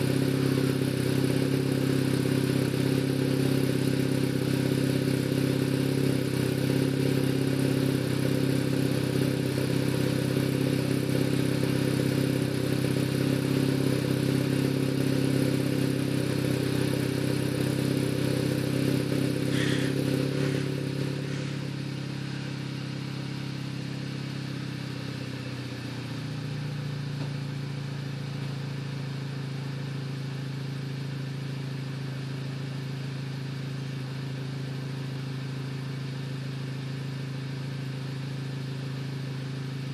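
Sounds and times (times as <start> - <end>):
car exhaust at raised revs: 0.0 - 39.9.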